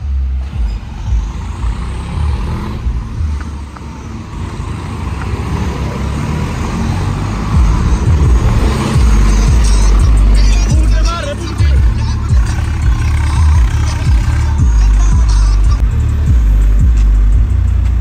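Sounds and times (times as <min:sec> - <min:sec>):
diesel tractor engines: 0:00.0 - 0:18.0.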